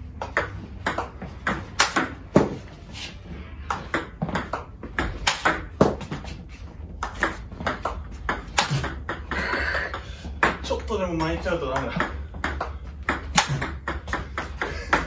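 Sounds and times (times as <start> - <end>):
table tennis ball strikes: 0.2 - 2.6, 3.7 - 6.3, 7.0 - 15.0.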